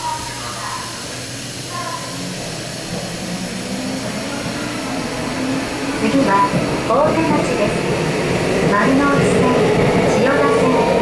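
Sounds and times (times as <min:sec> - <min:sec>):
subway train running noise: 0:00.0 - 0:11.0
train motor whine rising: 0:01.5 - 0:10.9.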